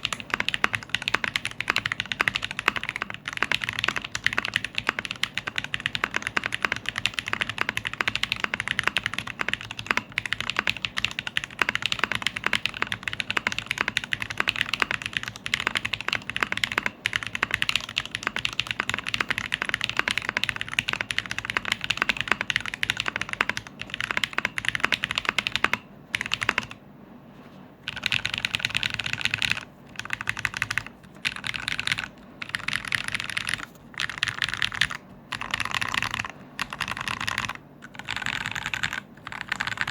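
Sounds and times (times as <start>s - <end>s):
keyboard typing clicks: 0.0s - 26.8s, 27.9s - 39.9s.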